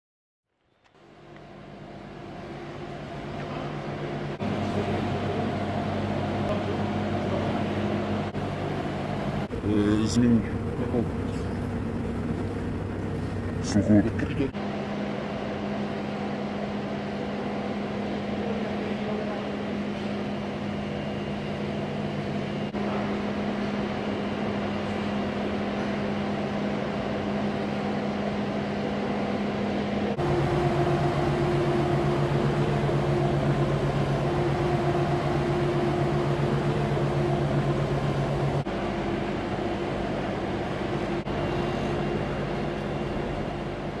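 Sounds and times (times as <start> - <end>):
electric machinery humming: 0.9 - 44.0.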